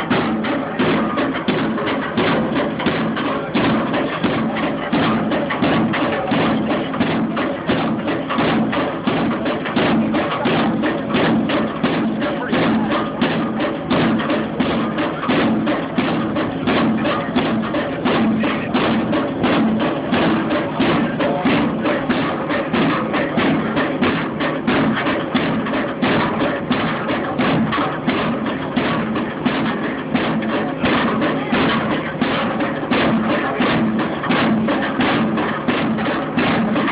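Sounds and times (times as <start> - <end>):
pile-driving hammer blows: 0.0 - 36.9.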